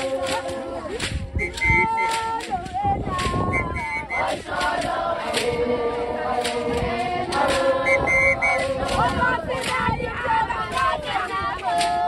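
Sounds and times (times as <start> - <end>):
sharp percussive beats: 0.0 - 9.8
women singing a chant: 0.0 - 12.0.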